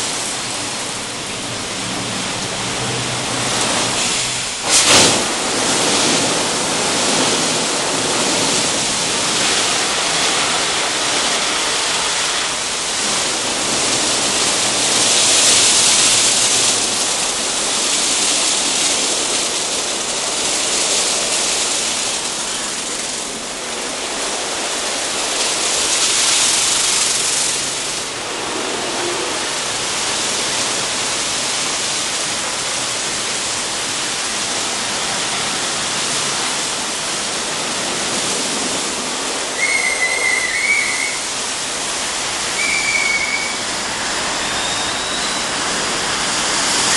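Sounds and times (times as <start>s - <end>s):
car wash water spraying and brushes: 0.0s - 46.9s.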